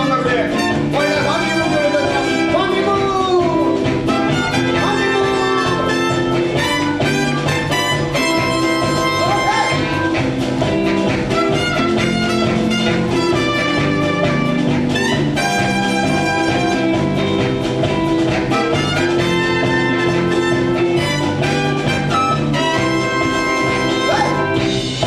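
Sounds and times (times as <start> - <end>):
live band with jazzy brass: 0.0 - 25.0.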